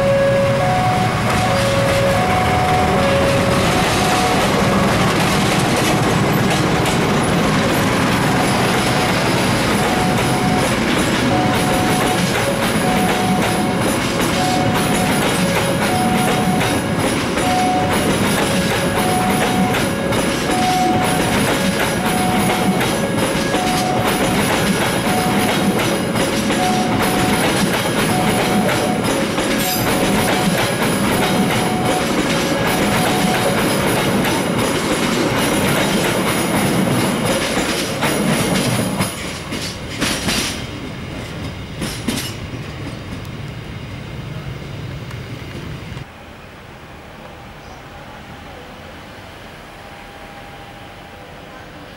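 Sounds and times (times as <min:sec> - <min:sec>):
train wheels clattering: 0:00.0 - 0:43.4.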